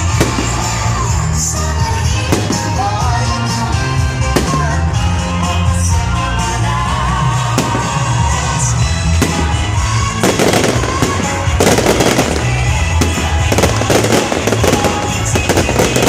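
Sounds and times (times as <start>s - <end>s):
fireworks bursting and crackling: 0.0s - 16.0s
loud music: 0.0s - 16.0s.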